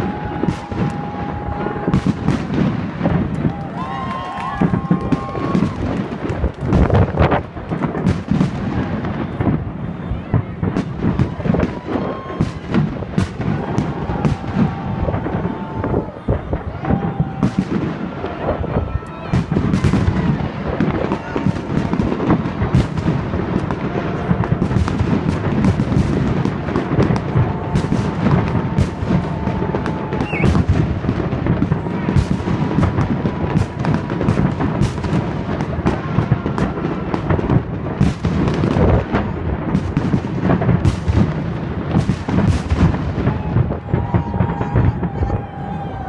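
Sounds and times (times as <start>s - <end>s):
fireworks bursting and crackling: 0.0s - 46.0s.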